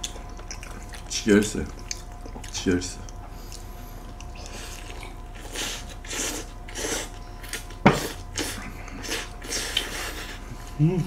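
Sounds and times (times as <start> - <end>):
wet chewing and smacking: 0.0 - 10.5.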